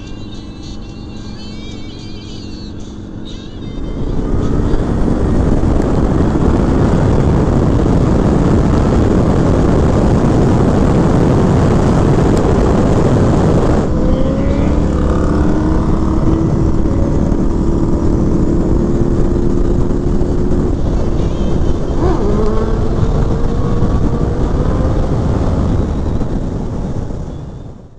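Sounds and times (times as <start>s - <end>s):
motorcycle engine revving: 0.0s - 27.7s
wind rushing on microphone: 3.0s - 27.9s.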